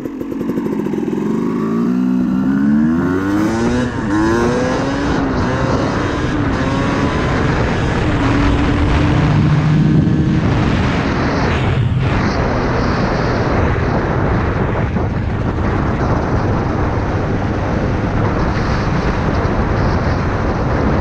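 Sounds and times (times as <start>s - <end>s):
dirt bike engine accelerating: 0.0s - 21.0s.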